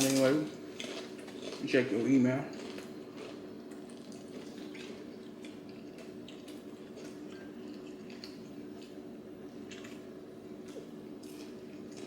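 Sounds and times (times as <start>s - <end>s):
steady low hum: 0.0s - 12.0s
chewing clicks and smacks: 0.8s - 9.0s, 9.6s - 12.0s.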